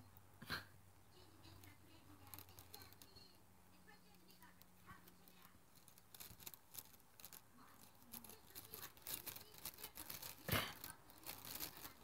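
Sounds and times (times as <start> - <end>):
cat licking a plastic bag: 1.2 - 12.0.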